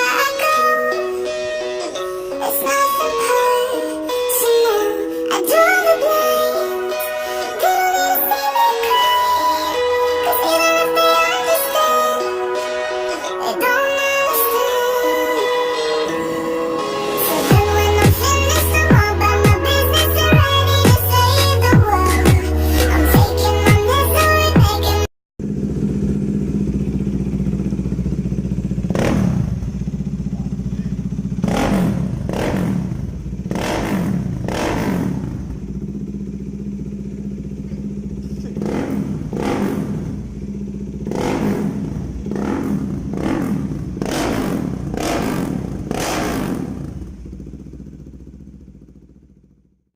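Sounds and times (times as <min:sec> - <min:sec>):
engine throttle blips: 0:00.0 - 0:49.8
motorcycle engine idling: 0:00.0 - 0:49.9.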